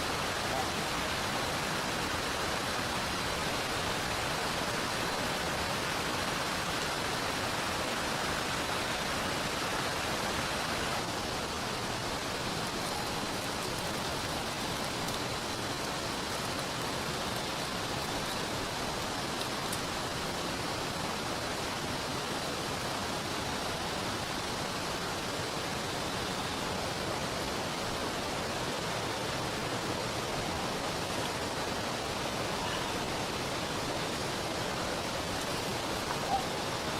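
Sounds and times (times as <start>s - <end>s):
rain falling: 0.0s - 36.9s
river flowing: 0.0s - 36.9s.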